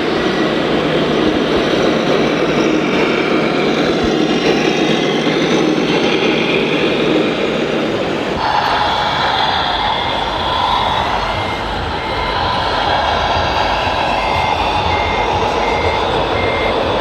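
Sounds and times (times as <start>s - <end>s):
pitched whine: 0.0s - 17.0s.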